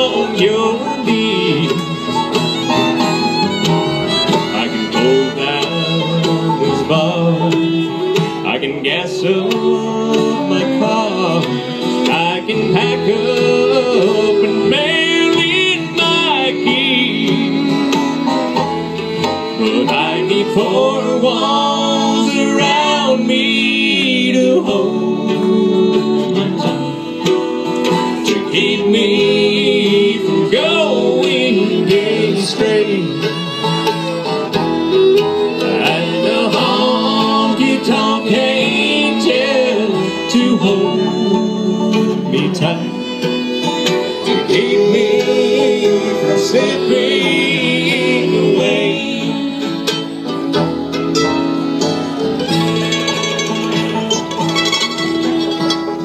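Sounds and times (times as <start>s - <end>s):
acoustic guitar: 0.0s - 56.0s
banjo: 0.0s - 56.0s
fiddle: 0.0s - 56.0s
mandolin: 0.0s - 56.0s
upright bass: 0.0s - 56.0s.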